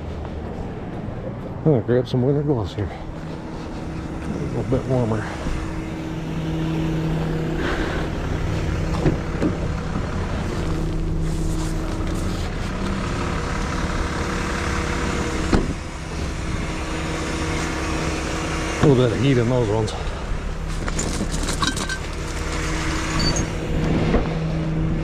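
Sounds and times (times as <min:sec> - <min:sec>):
truck engine idling: 0:02.7 - 0:23.9.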